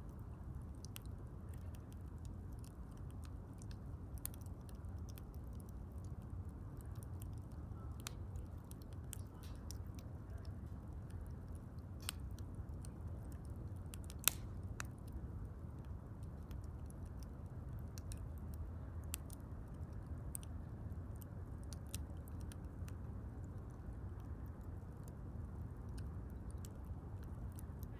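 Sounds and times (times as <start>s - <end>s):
bonfire crackling and popping: 0.0s - 27.9s.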